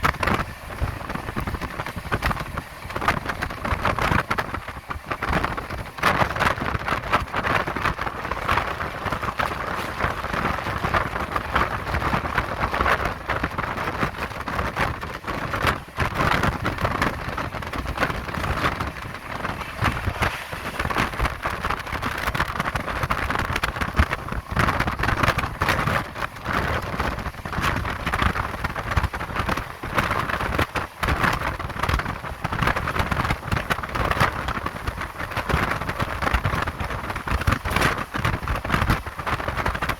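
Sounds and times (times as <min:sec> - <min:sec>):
train running at speed: 0:00.0 - 0:39.9.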